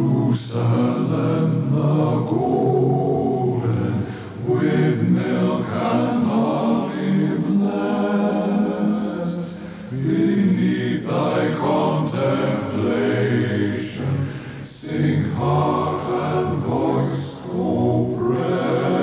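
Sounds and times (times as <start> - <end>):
congregation singing a hymn: 0.0 - 19.0.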